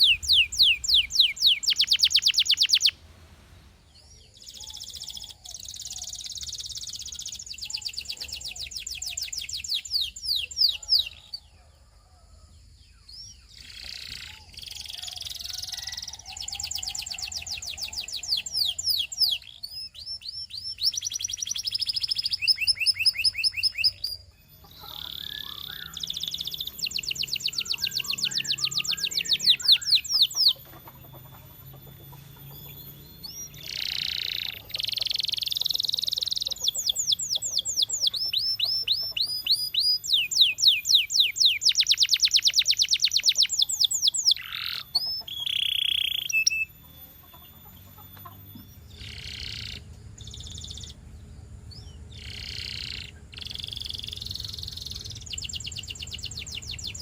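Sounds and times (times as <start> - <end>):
canary singing trills: 0.0 - 12.2, 12.8 - 57.0.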